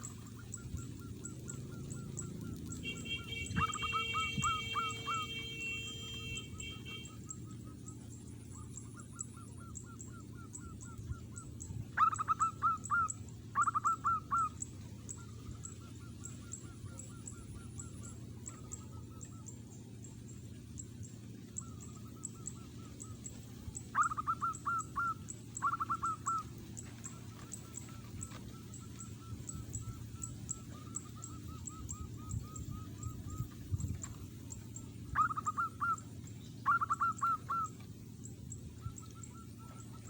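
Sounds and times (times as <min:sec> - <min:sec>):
dove cooing: 0:00.0 - 0:07.2, 0:08.5 - 0:19.5, 0:21.5 - 0:38.0.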